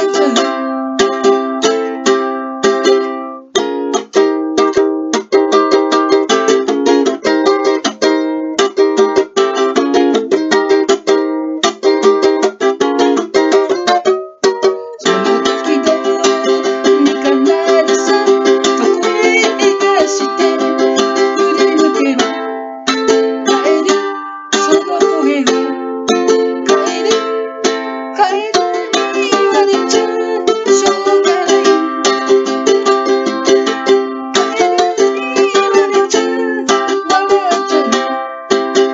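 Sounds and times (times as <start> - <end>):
ukulele strumming chords: 0.0 - 38.9.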